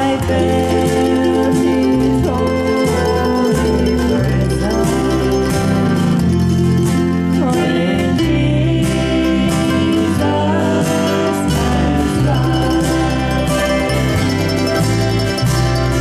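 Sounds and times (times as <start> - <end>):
group singing in harmony: 0.0 - 15.4
instrumental accompaniment with bass: 0.0 - 16.0.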